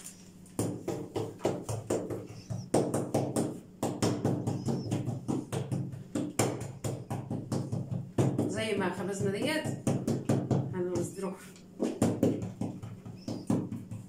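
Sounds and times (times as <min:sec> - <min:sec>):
hands slapping dough: 0:00.0 - 0:14.0.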